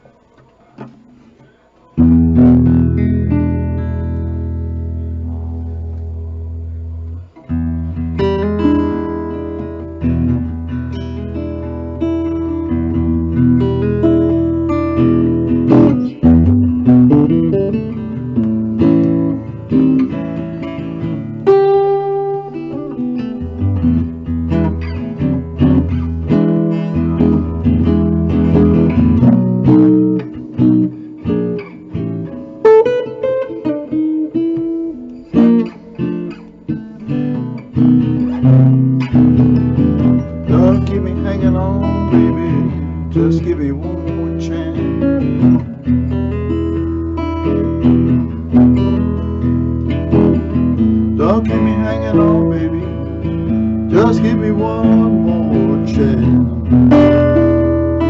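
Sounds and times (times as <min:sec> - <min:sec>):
electric guitar chords and notes: 0:00.8 - 0:58.0.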